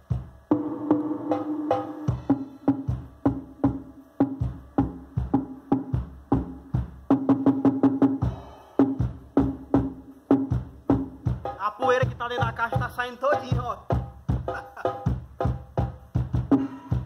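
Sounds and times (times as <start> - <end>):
music with heavy drum beat and bass: 0.0 - 17.0.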